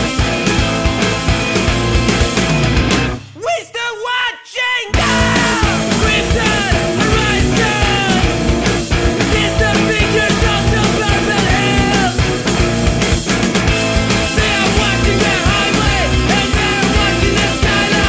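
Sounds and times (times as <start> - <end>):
rock band playing: 0.0 - 3.4, 4.9 - 18.0.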